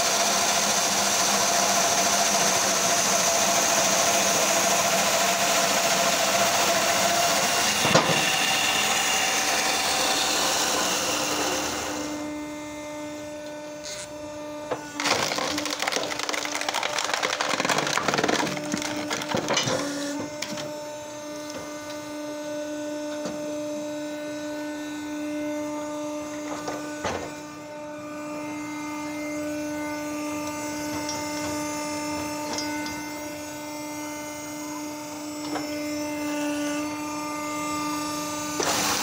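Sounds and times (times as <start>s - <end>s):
log splitter motor humming: 0.0s - 39.0s.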